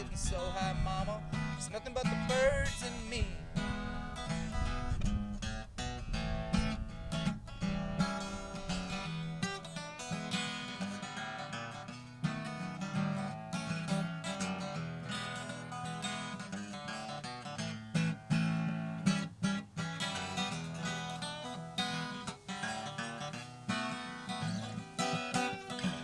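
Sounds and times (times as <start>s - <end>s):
plucked guitar notes: 0.0s - 26.0s
strummed acoustic guitar: 0.0s - 26.0s.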